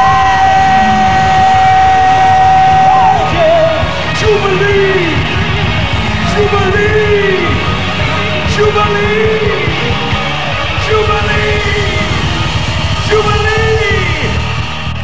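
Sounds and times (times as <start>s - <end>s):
gospel band and choir: 0.0s - 15.0s
pitch-bending melodic line: 0.0s - 15.0s.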